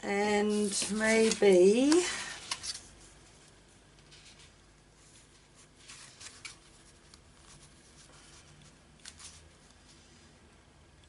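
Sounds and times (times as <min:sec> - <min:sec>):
paper sheets rustling: 0:00.4 - 0:10.1.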